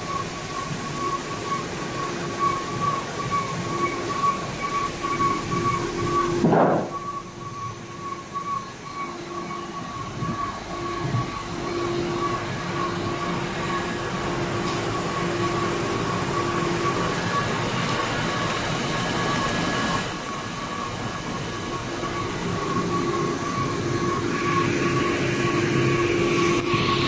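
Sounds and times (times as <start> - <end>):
printing machinery running: 0.0 - 27.0
suction system whine: 0.0 - 27.0.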